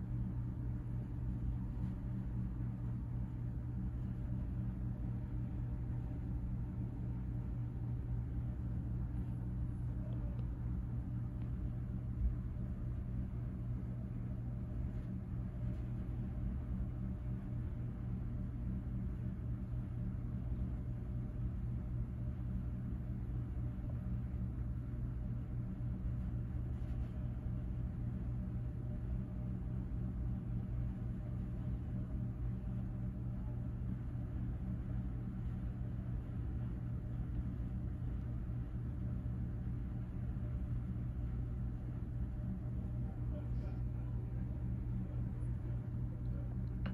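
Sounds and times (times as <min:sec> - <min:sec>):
ceiling fan motor hum: 0:00.0 - 0:46.9.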